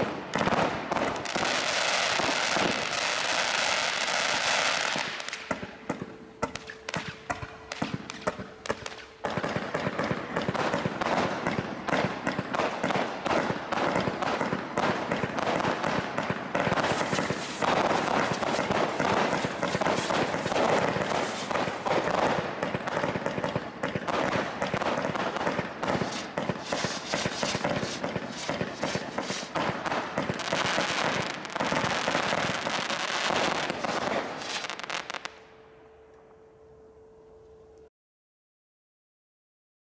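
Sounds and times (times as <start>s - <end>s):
firework barrage launches and bursts: 0.0s - 35.2s.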